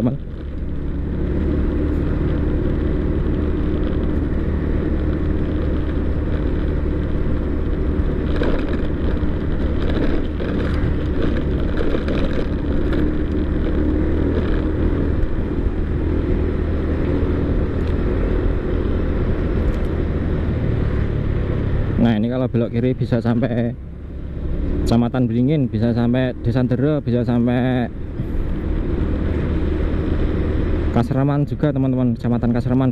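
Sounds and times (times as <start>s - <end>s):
road noise: 0.0s - 32.9s
vehicle clattering over rough road: 0.0s - 32.9s
vehicle engine hum: 0.0s - 32.9s.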